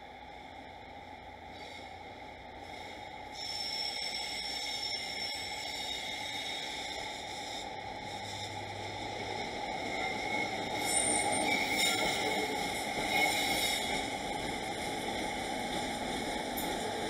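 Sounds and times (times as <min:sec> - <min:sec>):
faint high steady tones: 0:00.0 - 0:17.0
train running noise: 0:00.0 - 0:17.0.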